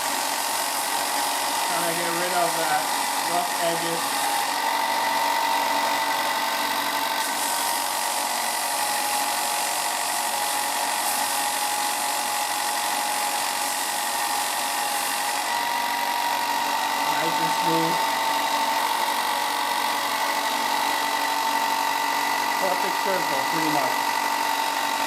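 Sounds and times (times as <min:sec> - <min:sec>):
belt sander whining: 0:00.0 - 0:25.0.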